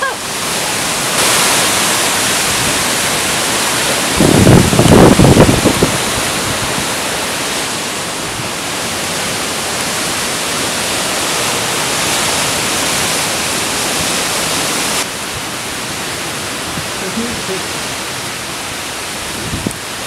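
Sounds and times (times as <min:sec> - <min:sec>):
storm wind rushing: 0:00.0 - 0:17.1, 0:19.0 - 0:19.9
wind gusts buffeting microphone: 0:00.0 - 0:20.0.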